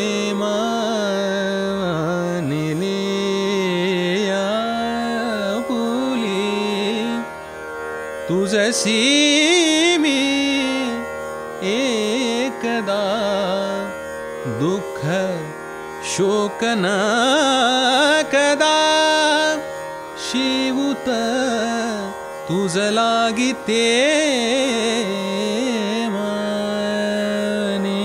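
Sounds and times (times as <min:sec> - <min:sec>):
person singing ornamented phrases: 0:00.0 - 0:07.4, 0:08.2 - 0:28.0.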